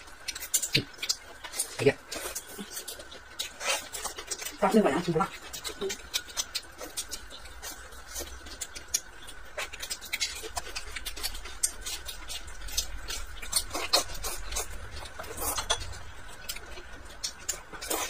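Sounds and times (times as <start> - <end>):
person chewing close up: 0.0 - 18.0.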